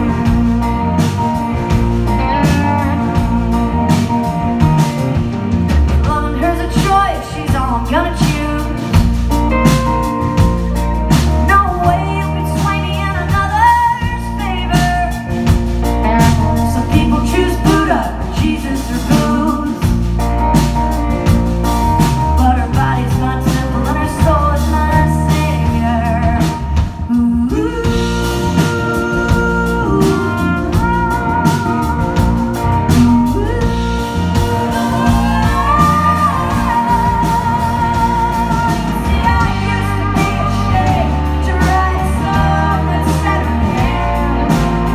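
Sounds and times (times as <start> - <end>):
drum kit: 0.0 - 44.9
electric bass: 0.0 - 44.9
electric guitar: 0.0 - 44.9
woman singing lead: 0.0 - 44.9.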